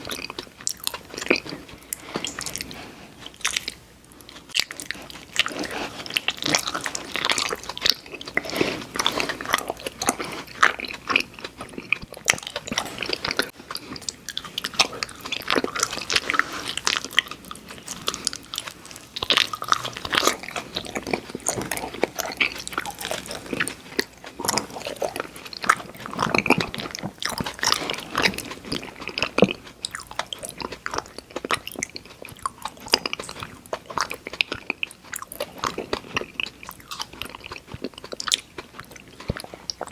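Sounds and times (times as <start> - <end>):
chewing candy: 0.0 - 39.9.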